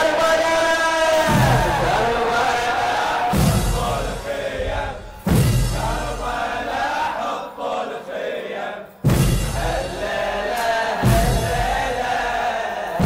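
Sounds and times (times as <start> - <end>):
men chanting in chorus: 0.0 - 13.0.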